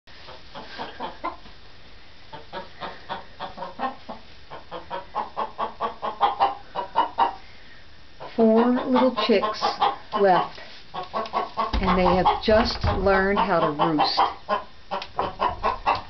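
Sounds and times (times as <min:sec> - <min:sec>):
chickens clucking: 0:00.1 - 0:01.6, 0:02.2 - 0:16.0.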